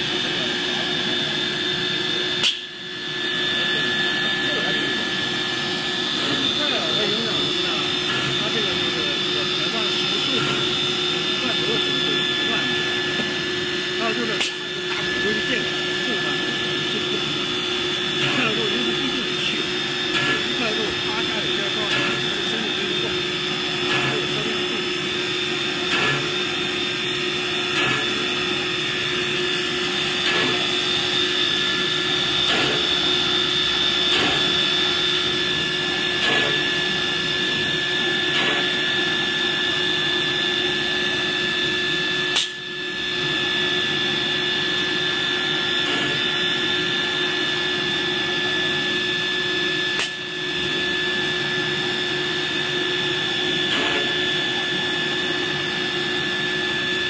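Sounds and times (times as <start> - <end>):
high-pitched drill motor whine: 0.0 - 57.0.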